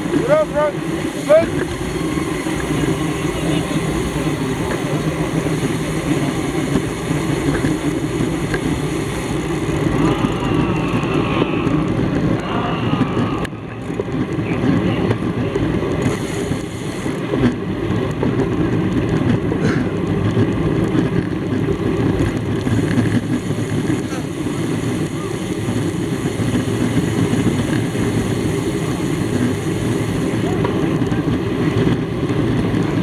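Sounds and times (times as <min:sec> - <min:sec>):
bicycle tyre noise: 0:00.0 - 0:33.0.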